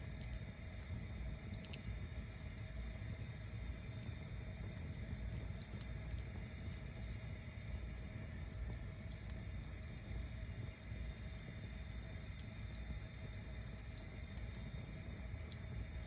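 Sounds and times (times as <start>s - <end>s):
bonfire flames rumbling: 0.0s - 16.0s
fire crackling and popping: 0.0s - 16.0s.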